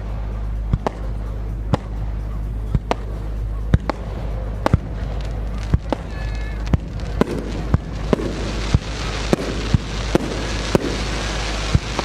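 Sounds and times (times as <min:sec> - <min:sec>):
fireworks bursting in sharp bangs: 0:00.0 - 0:12.0
steady low rumble: 0:00.0 - 0:12.0.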